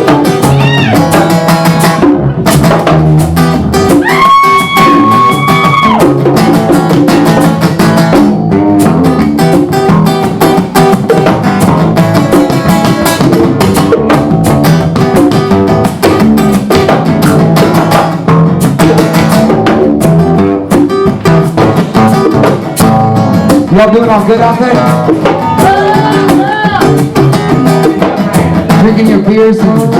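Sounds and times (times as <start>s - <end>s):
acoustic guitar strumming: 0.0s - 29.9s
hand percussion beat: 0.0s - 29.9s.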